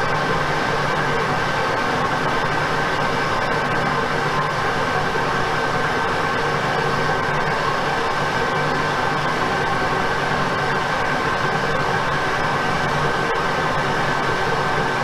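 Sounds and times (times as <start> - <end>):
metal lathe drone with high whine: 0.0 - 15.0.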